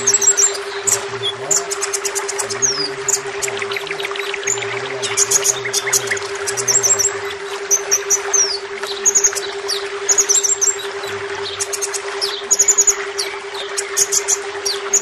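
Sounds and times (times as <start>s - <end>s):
bird chirping: 0.0s - 15.0s
low hum: 0.0s - 15.0s
trickling water: 0.0s - 15.0s.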